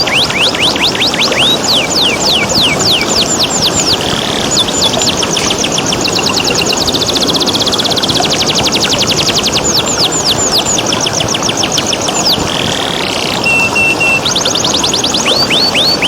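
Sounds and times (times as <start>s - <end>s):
canary singing: 0.0s - 16.0s
flowing water hiss: 0.0s - 16.0s.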